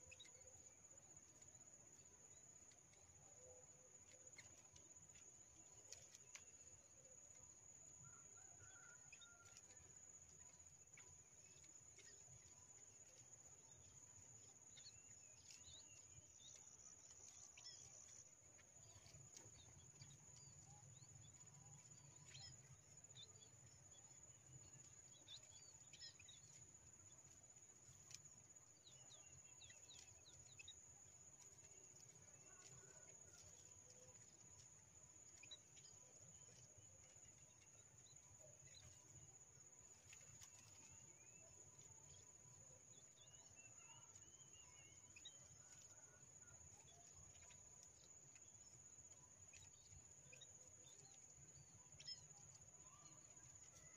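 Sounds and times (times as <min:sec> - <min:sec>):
faint small bird chirps: 0:00.0 - 0:53.9.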